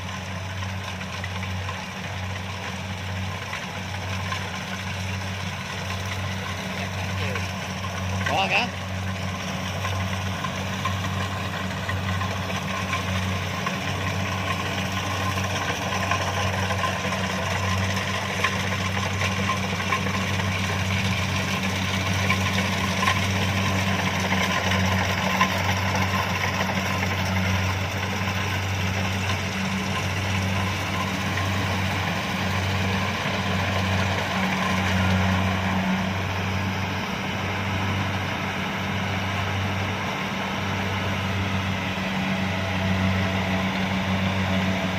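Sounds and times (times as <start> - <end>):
harvester diesel engine droning: 0.0 - 44.9.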